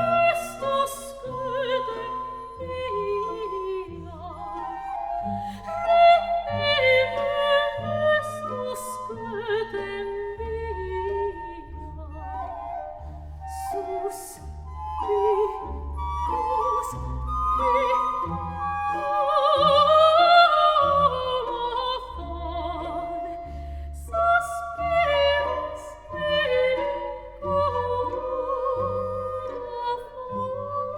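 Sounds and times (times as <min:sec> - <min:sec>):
operatic singing with vibrato: 0:00.0 - 0:12.8, 0:13.4 - 0:30.9.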